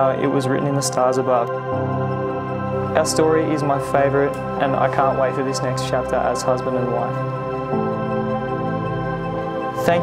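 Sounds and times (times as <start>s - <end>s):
slow sustained music chords: 0.0s - 10.0s.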